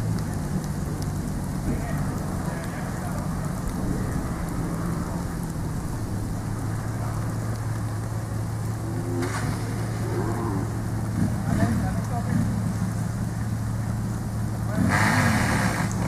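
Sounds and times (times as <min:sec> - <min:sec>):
car engine idling: 0:00.0 - 0:16.0
rain hissing: 0:00.0 - 0:16.0.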